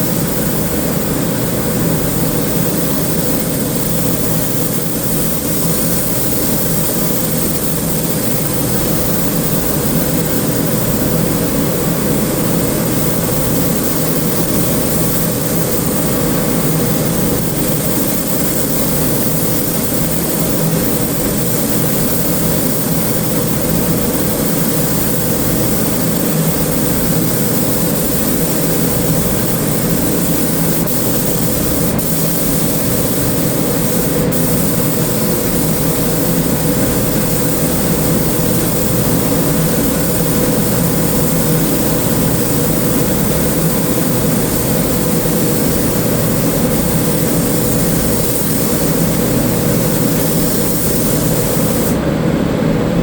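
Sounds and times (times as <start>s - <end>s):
shop machinery drone: 0.0s - 53.0s.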